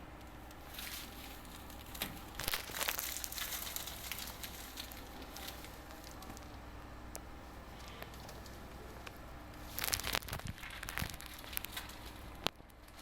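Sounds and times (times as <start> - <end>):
crinkling rustling handling noise: 0.2 - 13.0.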